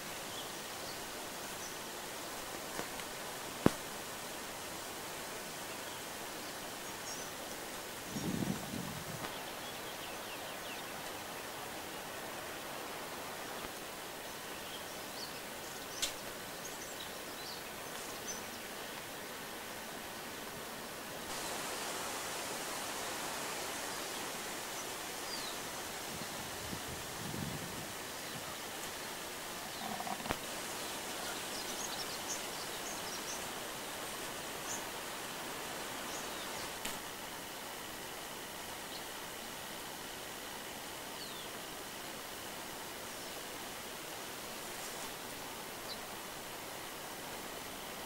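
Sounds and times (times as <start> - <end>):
forest ambience hiss: 0.0 - 48.0.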